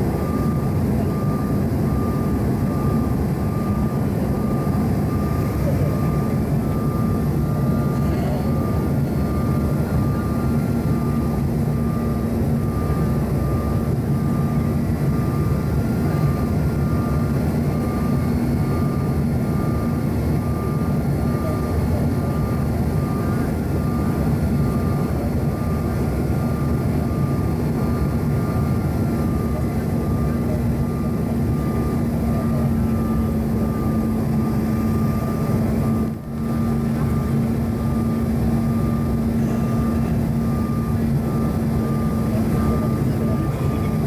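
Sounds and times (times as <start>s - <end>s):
jet engine cabin roar: 0.0s - 44.0s.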